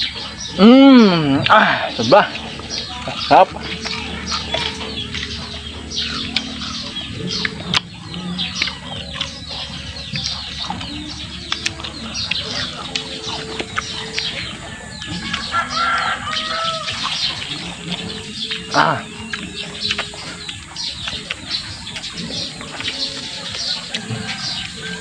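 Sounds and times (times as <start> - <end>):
biting and chewing fruit: 0.0 - 25.0
chickens clucking: 0.0 - 25.0
small birds chirping: 0.0 - 25.0.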